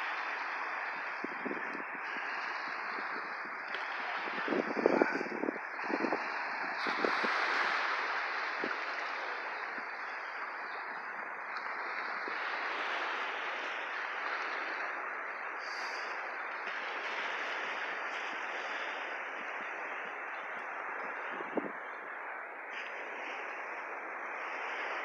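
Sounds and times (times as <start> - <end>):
small waves washing onto shore: 0.0 - 25.0
wind: 0.0 - 25.0.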